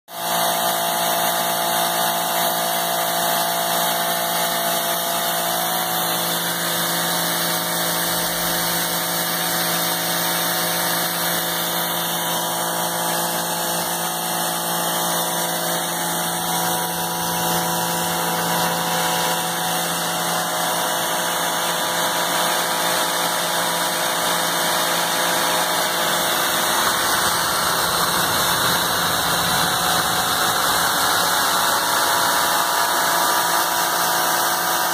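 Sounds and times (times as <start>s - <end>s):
pressure washer running: 0.1s - 34.9s.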